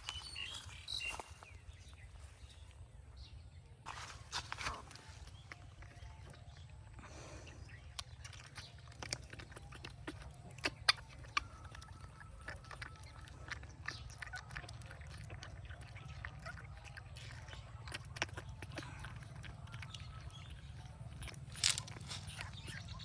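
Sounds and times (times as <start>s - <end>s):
baby monkey sucking bottle: 4.6s - 23.0s.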